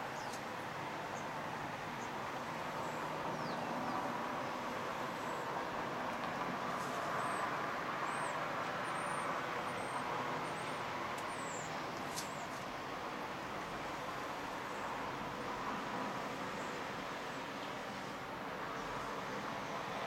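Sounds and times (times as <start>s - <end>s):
distant road traffic hum: 0.0s - 20.0s.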